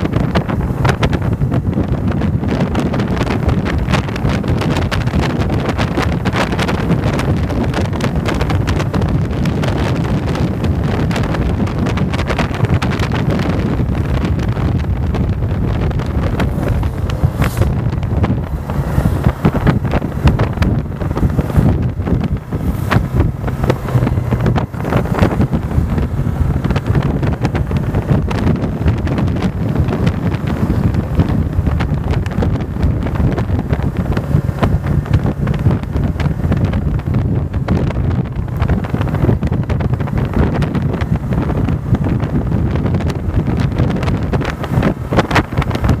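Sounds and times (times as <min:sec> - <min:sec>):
motorcycle engine running: 0:00.0 - 0:46.0
wind buffeting microphone: 0:00.0 - 0:46.0.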